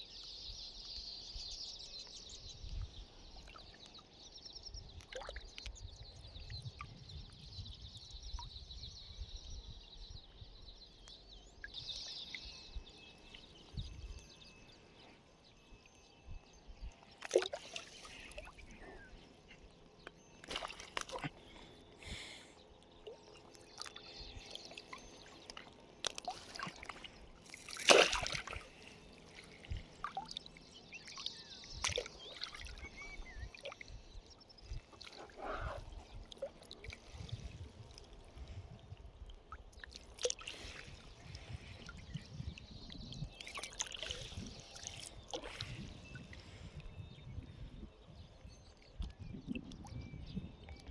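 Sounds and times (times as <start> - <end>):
water splashing and trickling: 2.6 - 8.6, 11.6 - 48.0, 48.7 - 50.9.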